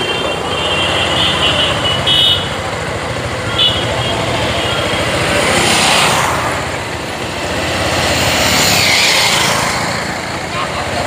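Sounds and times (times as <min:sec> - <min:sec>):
motorcycles passing: 0:00.0 - 0:11.0.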